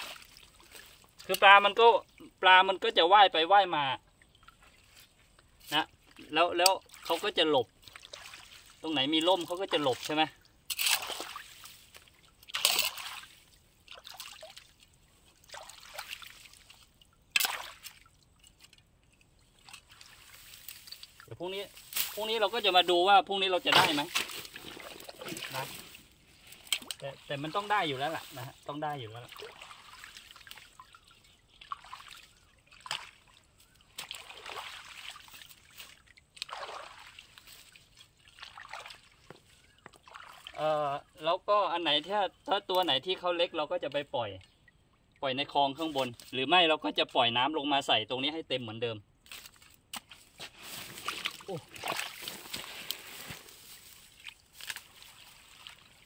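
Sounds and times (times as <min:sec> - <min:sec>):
water splashing and sloshing: 0:00.0 - 0:41.4, 0:49.2 - 0:56.0.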